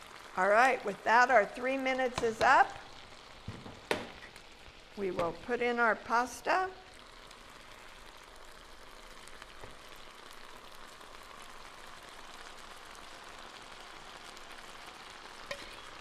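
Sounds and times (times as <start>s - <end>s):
vegetables sizzling in skillet: 0.0s - 16.0s.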